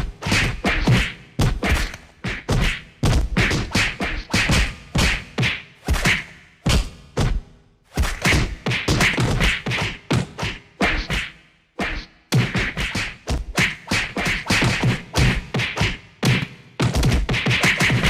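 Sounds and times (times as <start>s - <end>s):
punches and body hits: 0.2s - 11.3s, 12.3s - 18.0s.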